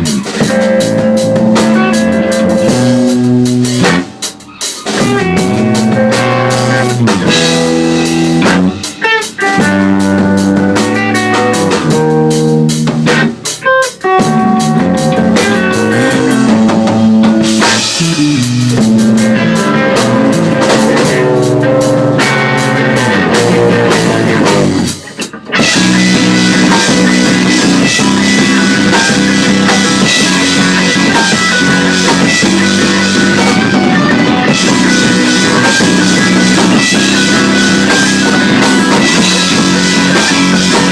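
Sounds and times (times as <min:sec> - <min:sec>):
rock music with drums and guitar: 0:00.0 - 0:40.9.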